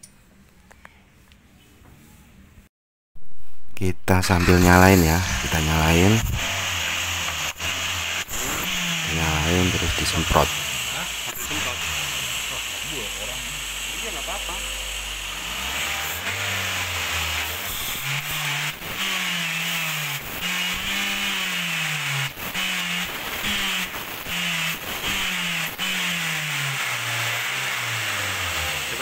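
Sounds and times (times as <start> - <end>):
engine revving: 4.1 - 29.0.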